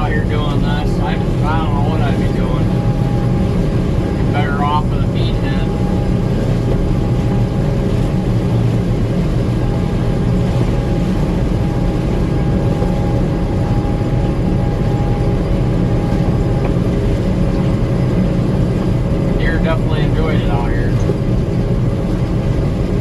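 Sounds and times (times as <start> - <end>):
thin machinery whine: 0.0 - 22.0
combine harvester engine drone: 0.0 - 23.0.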